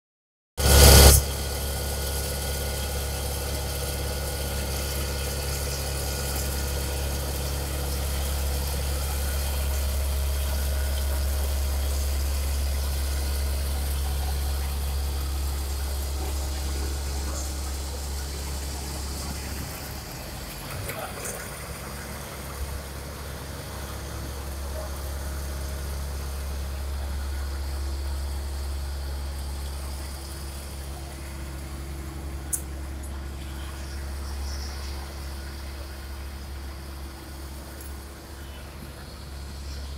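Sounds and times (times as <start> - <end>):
diesel truck engine humming: 0.7 - 39.9.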